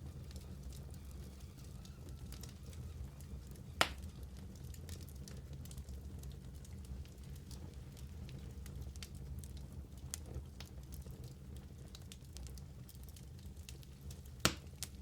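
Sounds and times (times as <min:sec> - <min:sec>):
fire crackles and pop: 0:00.0 - 0:15.0
fire rumbling in fireplace: 0:00.0 - 0:15.0.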